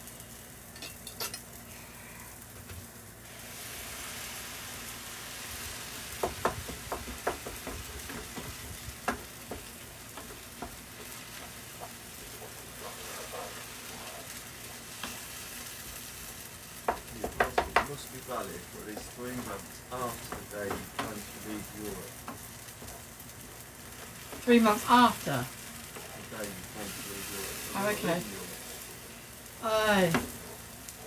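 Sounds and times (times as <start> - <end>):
beans sizzling in hot pan: 0.0 - 31.0.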